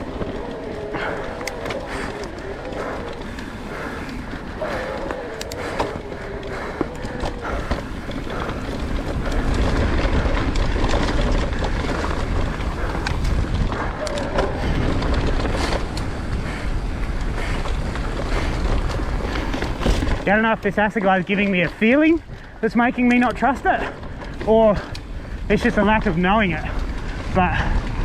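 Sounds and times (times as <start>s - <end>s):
bike knocks and rattles: 0.0s - 28.0s
bike rolling over rocky trail: 0.0s - 28.0s
wind rumbling on microphone: 0.0s - 28.0s.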